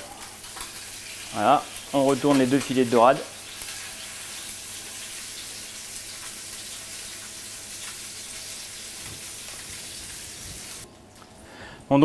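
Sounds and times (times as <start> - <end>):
fish sizzling in frying pan: 0.0 - 10.8.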